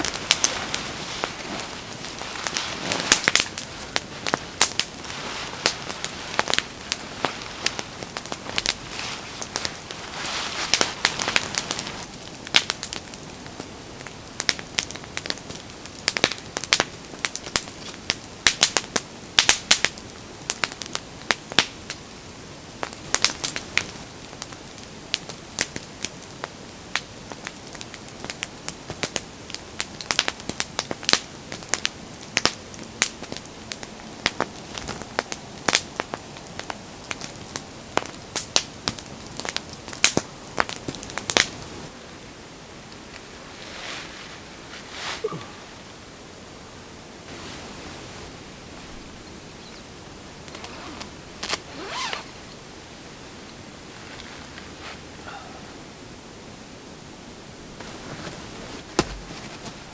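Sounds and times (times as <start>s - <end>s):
wood fire crackling: 0.0s - 45.4s, 47.2s - 59.9s
soft steady hiss: 0.0s - 59.9s.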